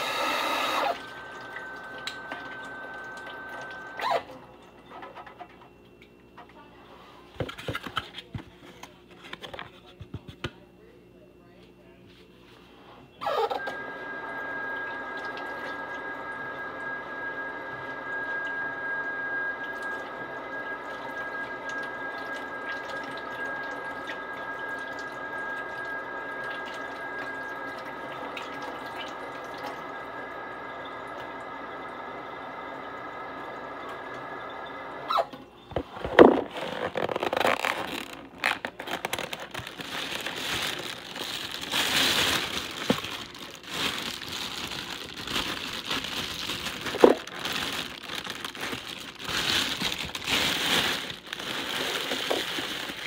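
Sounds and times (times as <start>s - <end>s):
machine hum with even tones: 0.0s - 53.0s.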